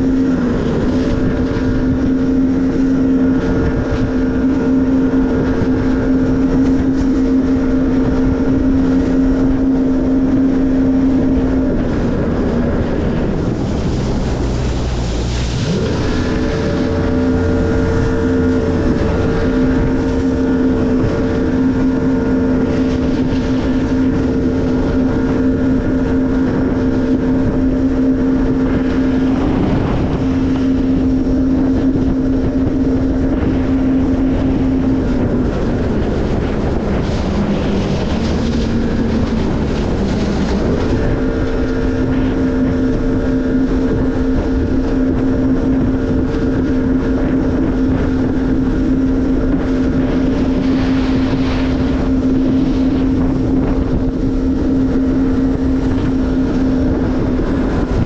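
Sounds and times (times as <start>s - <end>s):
jet ski engine running: 0.0s - 58.0s
wind and water rushing: 0.0s - 58.0s.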